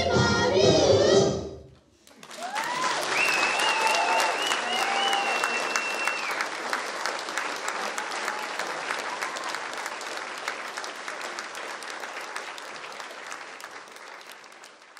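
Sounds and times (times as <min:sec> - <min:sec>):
audience applauding: 0:02.0 - 0:14.9.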